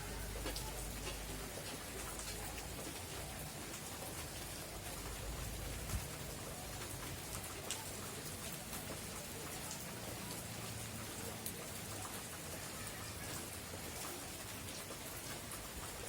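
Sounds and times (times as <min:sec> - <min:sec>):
raindrops ticking on surfaces: 0:00.0 - 0:16.0
steady rain falling: 0:00.0 - 0:16.0.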